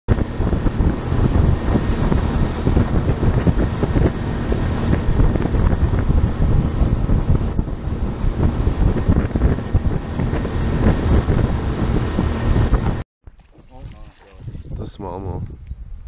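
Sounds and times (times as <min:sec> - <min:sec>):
outboard motor running: 0:00.1 - 0:14.7
wind buffeting microphone: 0:00.1 - 0:16.0.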